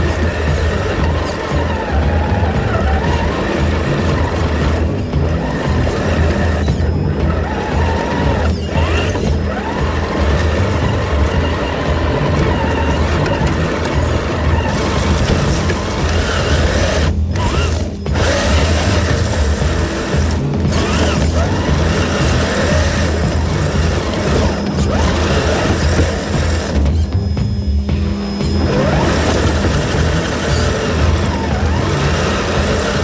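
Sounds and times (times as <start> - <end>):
background music: 0.0 - 33.0
toy car motor whining: 0.0 - 33.0.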